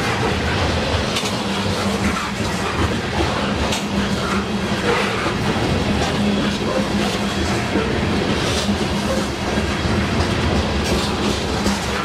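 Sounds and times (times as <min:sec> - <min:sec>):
steel wheels rumbling on rail: 0:00.0 - 0:12.0
wheels clicking over rail joints: 0:00.0 - 0:12.0.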